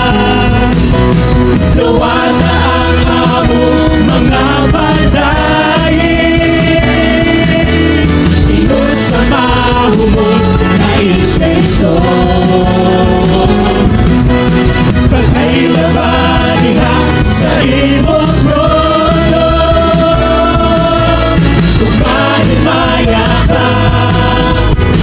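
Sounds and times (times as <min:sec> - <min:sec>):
drum kit: 0:00.0 - 0:25.0
electric bass guitar: 0:00.0 - 0:25.0
women singing into microphones: 0:01.7 - 0:13.9, 0:15.2 - 0:24.8.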